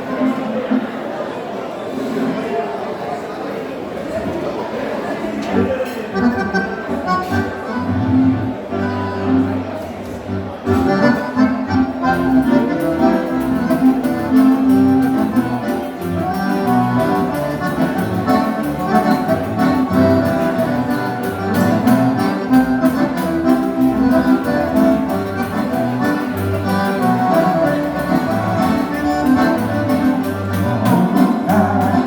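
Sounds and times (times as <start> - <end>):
accordion dance-band music: 5.4 - 32.0.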